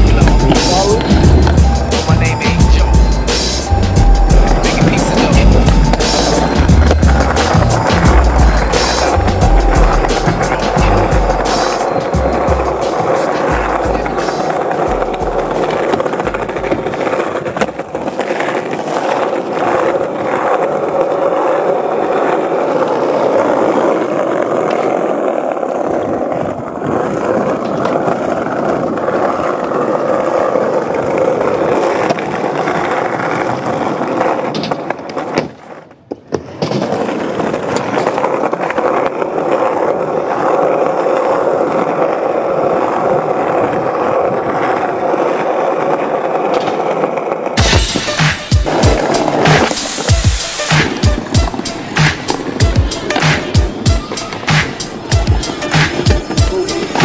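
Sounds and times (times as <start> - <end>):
skateboard wheels rolling on stone: 0.0 - 57.0.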